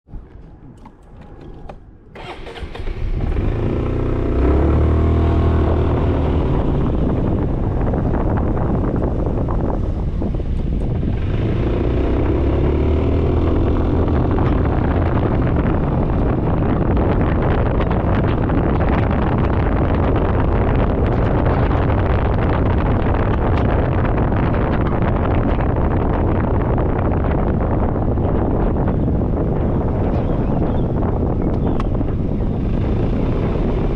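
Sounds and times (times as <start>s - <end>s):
wind noise on microphone: 0.0s - 33.9s
scooter engine accelerating: 2.2s - 33.9s.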